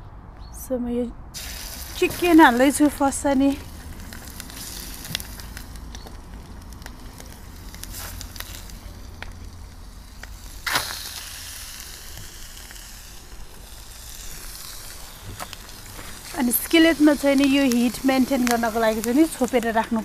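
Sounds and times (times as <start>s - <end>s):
chicken frying in hot oil: 1.4s - 20.0s.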